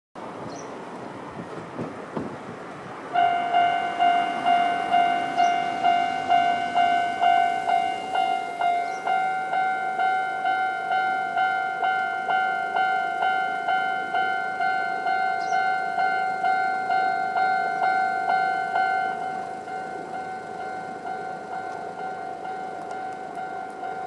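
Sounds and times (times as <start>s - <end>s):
level-crossing warning bell: 3.1s - 24.0s.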